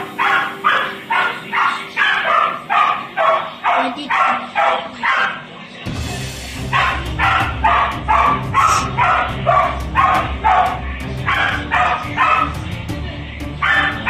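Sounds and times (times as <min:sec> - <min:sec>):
dog barking: 0:00.0 - 0:05.6, 0:06.7 - 0:12.7, 0:13.6 - 0:14.0.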